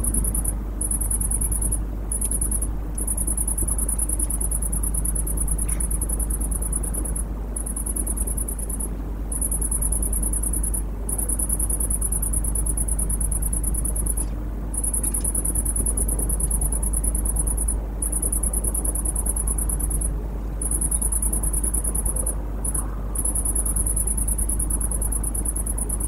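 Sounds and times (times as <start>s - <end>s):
crickets trilling: 0.0s - 26.0s
steady low hum: 0.0s - 26.0s.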